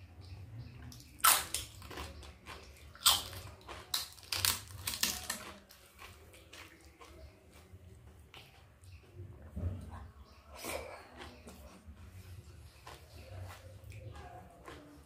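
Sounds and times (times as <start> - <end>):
chewing crisp food: 0.0 - 15.0.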